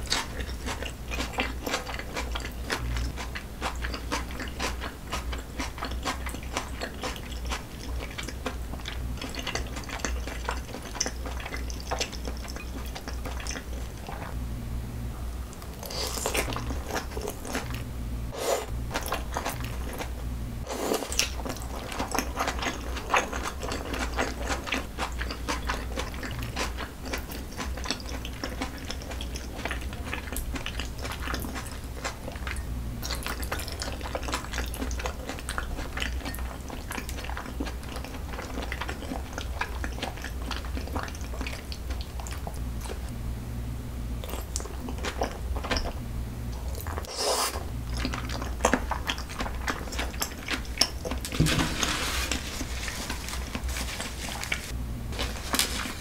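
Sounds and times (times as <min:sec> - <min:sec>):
wet chewing mouth sounds: 0:00.0 - 0:14.4, 0:15.5 - 0:43.2, 0:44.2 - 0:56.0
steady low hum: 0:00.0 - 0:56.0.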